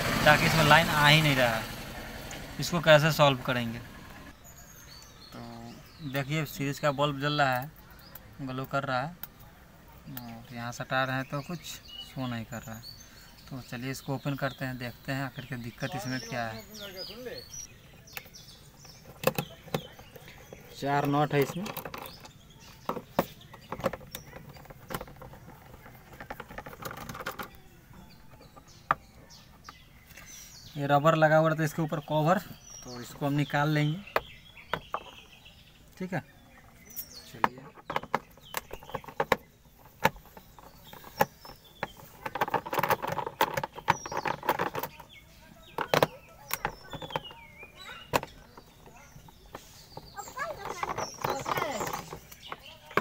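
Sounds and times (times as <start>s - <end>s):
birds chirping faintly: 0.0s - 53.0s.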